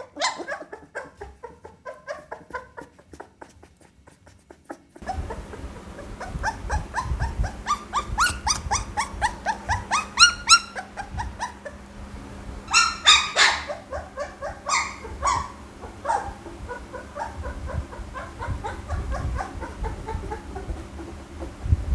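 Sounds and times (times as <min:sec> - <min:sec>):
puppies whining and yelping: 0:00.0 - 0:12.0, 0:12.7 - 0:21.7.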